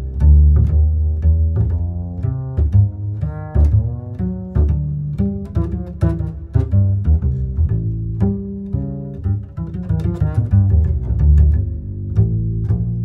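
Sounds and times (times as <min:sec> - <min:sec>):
background music with low strings: 0:00.0 - 0:13.0.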